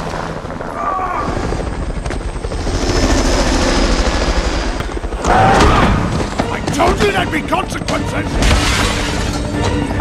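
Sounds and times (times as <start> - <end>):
helicopter rotor chopping: 0.0 - 10.0.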